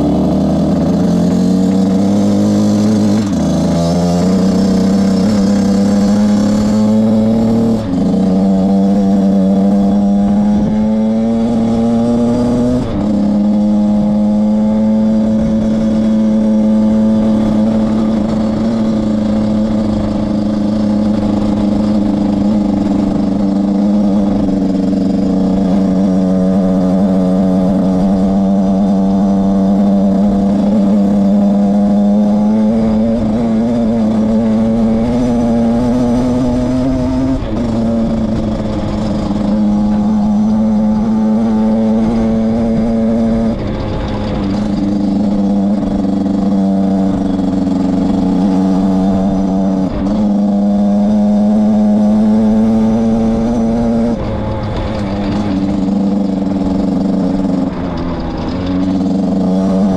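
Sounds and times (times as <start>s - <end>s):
two-stroke motorcycle engine: 0.0s - 59.9s.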